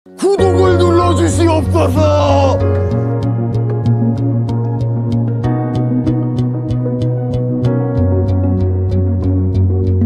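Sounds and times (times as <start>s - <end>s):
held chords over bass: 0.3s - 10.0s.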